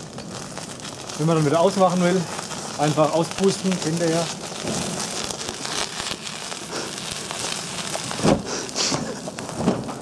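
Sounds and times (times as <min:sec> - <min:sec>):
flames crackling and hissing: 0:00.0 - 0:10.0.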